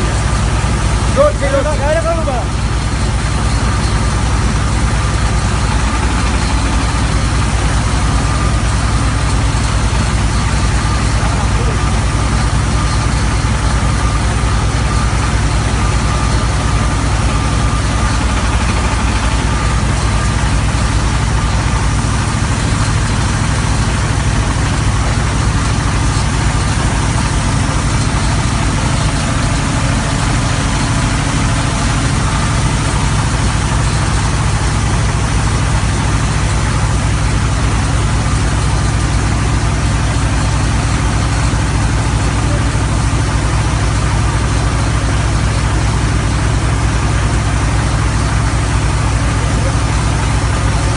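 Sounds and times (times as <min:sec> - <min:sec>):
drilling rig engine droning: 0:00.0 - 0:50.9.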